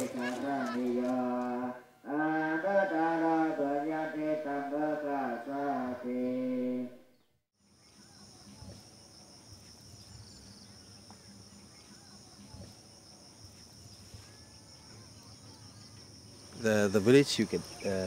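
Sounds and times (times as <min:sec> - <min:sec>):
insects droning: 0:00.0 - 0:05.6, 0:07.6 - 0:18.0
quiet outdoor ambience: 0:00.0 - 0:18.0.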